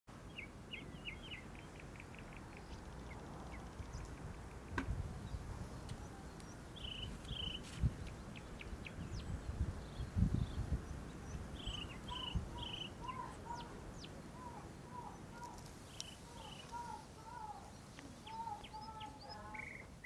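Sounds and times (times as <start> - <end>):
small songbirds chirping: 0.1 - 20.0.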